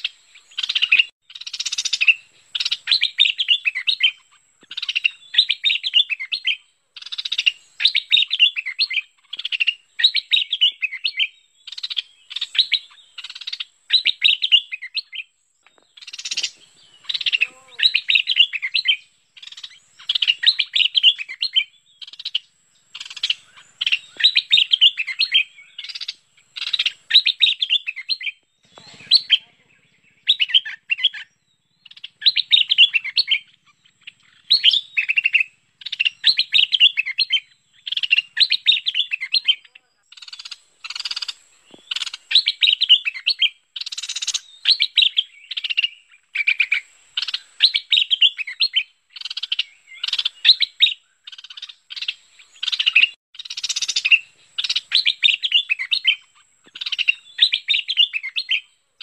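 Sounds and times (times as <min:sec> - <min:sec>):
bird singing chattering phrases: 0:00.0 - 0:59.0.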